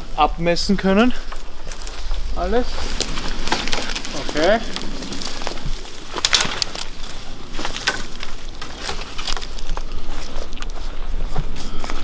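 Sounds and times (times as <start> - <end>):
twigs crackling and snapping: 1.1 - 11.0.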